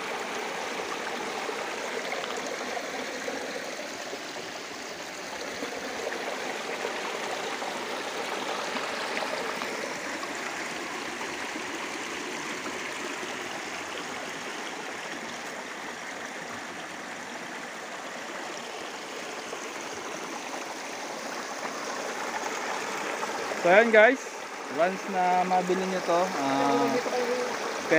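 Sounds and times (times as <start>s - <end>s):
river babbling over rocks: 0.0s - 27.9s.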